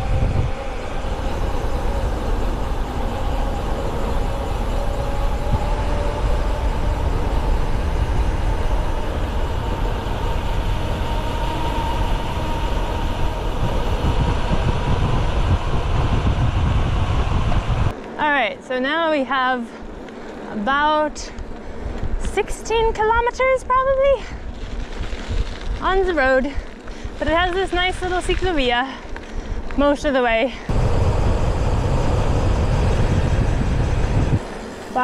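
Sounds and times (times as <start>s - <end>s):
tyres rolling on asphalt: 0.0s - 18.2s, 19.7s - 20.6s, 23.1s - 35.0s
wind rushing over microphone: 0.0s - 35.0s.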